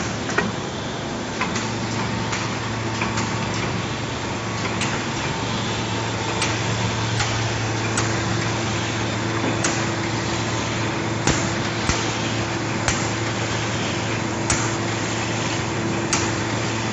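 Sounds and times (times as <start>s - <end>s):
coating machine humming: 0.0s - 16.9s.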